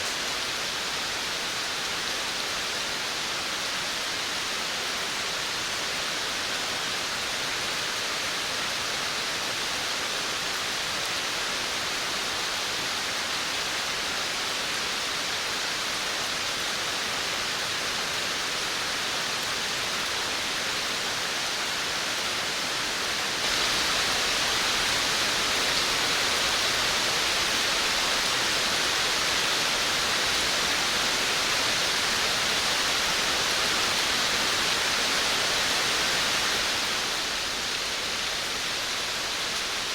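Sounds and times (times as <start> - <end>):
rain falling on a veranda: 0.0 - 39.9.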